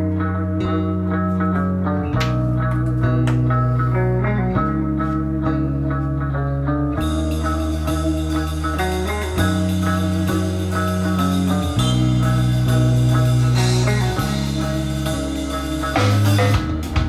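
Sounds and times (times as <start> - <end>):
guitar rock music: 0.0 - 17.0.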